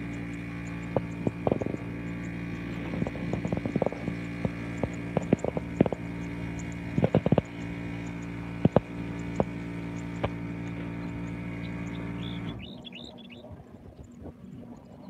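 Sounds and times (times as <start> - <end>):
sharp clicks: 0.0 - 13.0
distant helicopter drone: 0.0 - 15.0.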